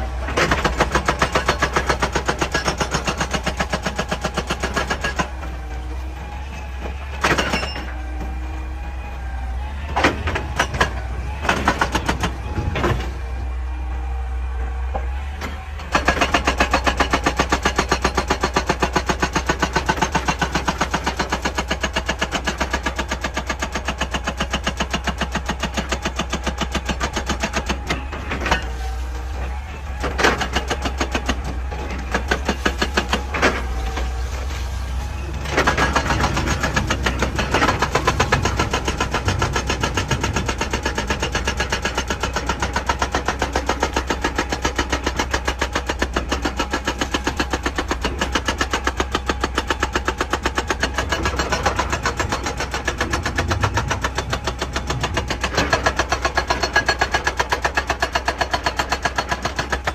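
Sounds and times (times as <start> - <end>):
low engine hum: 0.0 - 57.4
excavator pounding rock: 0.0 - 59.9.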